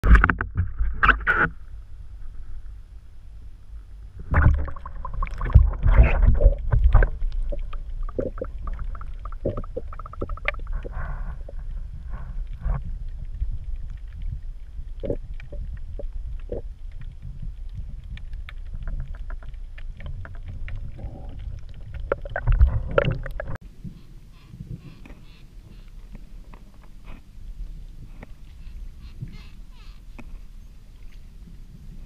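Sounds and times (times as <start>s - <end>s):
underwater sloshing and gurgling: 0.0s - 32.0s
low steady rumble: 0.4s - 32.0s.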